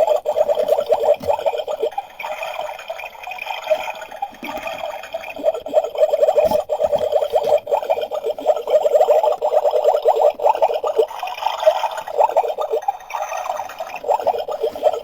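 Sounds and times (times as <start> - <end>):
water running and bubbling: 0.0 - 15.0.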